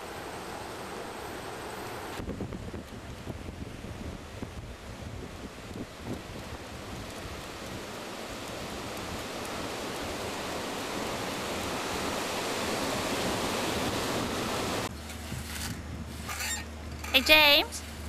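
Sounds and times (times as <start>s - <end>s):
surf washing up a beach: 0.0s - 14.9s.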